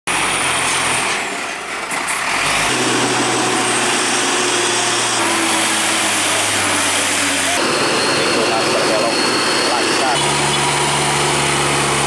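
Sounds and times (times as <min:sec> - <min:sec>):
diesel truck engines labouring: 0:00.1 - 0:12.0.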